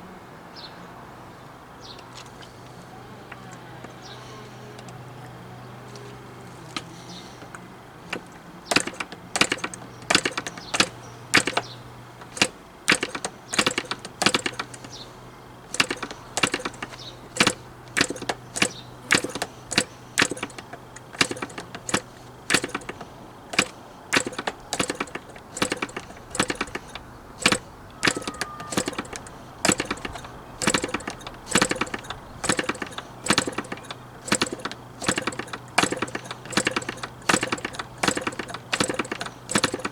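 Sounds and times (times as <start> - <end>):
model engine propeller flick clicks: 5.9 - 39.9.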